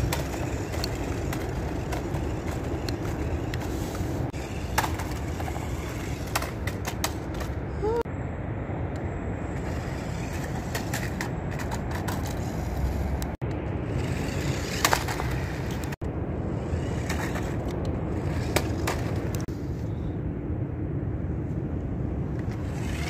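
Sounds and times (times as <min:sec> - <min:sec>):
toy car rolling over stone: 0:00.0 - 0:08.0, 0:09.4 - 0:19.5, 0:22.4 - 0:23.0.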